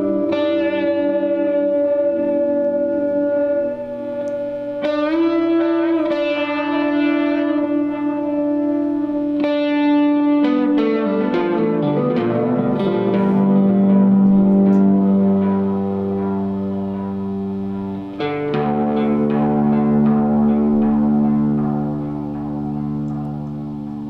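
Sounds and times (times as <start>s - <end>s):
electric guitar chords with echo: 0.0s - 24.0s.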